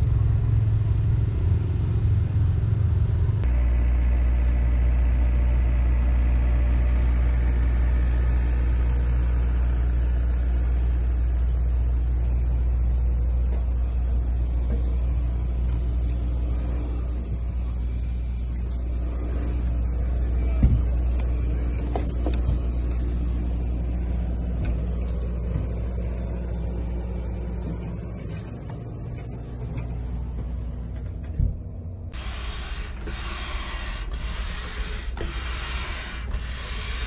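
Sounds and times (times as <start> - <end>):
machinery drone: 0.0 - 37.0.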